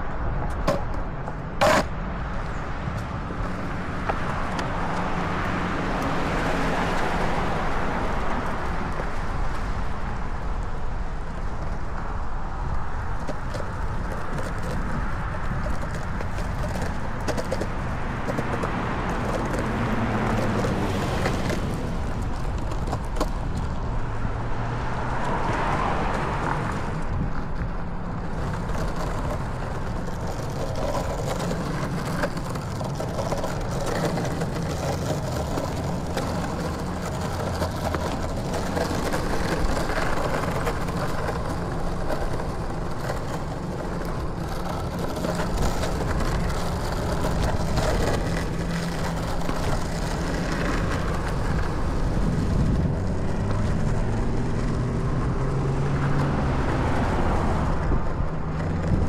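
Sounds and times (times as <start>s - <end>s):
longboard wheels rolling on asphalt: 0.0s - 59.0s.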